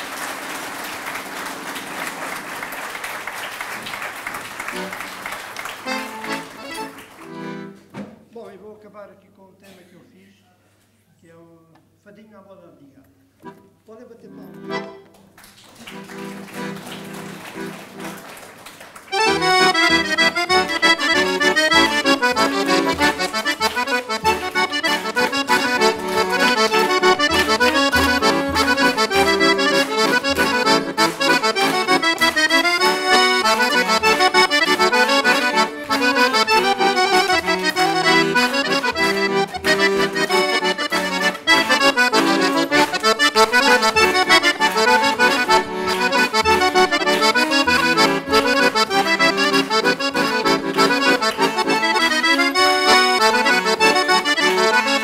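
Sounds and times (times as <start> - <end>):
button accordion playing a tune: 0.0 - 7.9, 13.4 - 15.1, 15.9 - 18.4, 19.1 - 55.0.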